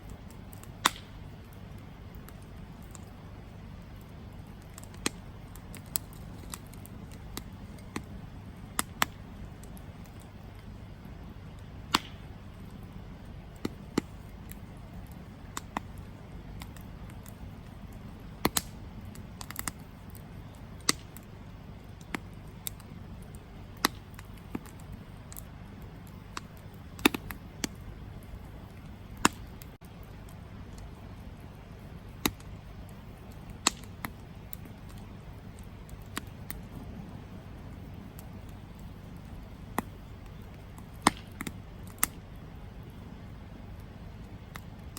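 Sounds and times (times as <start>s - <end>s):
campfire crackling: 0.0s - 44.9s
sharp fire pops: 0.0s - 44.9s.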